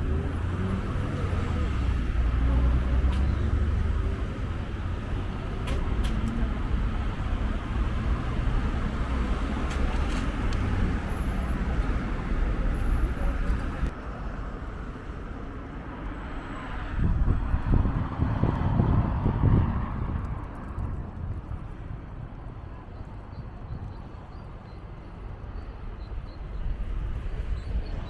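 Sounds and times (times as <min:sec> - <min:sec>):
rumble of passing traffic: 0:00.0 - 0:28.0.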